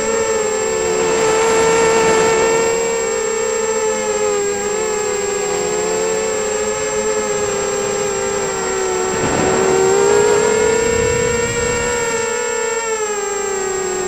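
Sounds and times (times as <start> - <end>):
constant thin high tone: 0.0 - 14.0
quadcopter motors whining: 0.0 - 14.0.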